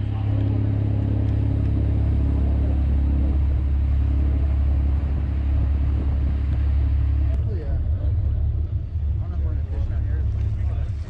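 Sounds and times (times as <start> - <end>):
boat engine humming: 0.0 - 11.0
wake rushing along hull: 0.0 - 11.0.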